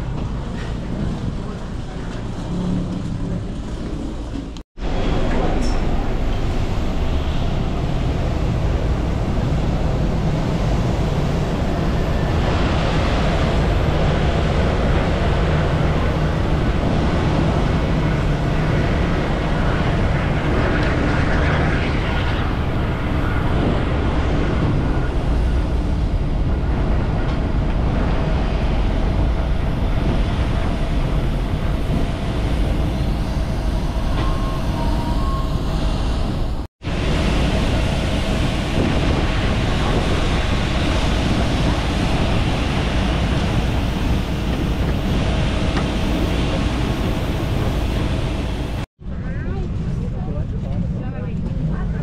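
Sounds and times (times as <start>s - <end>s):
engine and machinery rumble: 0.0s - 52.0s.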